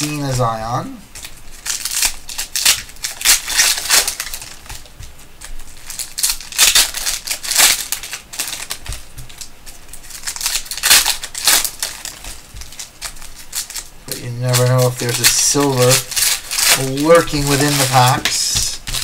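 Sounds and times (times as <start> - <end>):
foil wrapper crinkling and tearing: 0.0 - 19.0.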